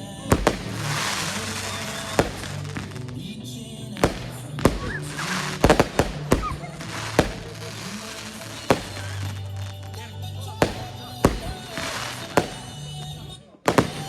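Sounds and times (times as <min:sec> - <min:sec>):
fireworks banging: 0:00.0 - 0:14.0
music: 0:00.0 - 0:14.0.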